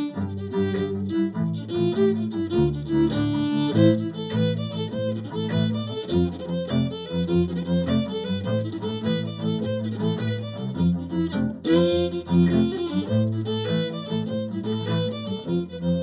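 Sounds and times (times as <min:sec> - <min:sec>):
fiddle playing a jig: 0:00.0 - 0:16.0.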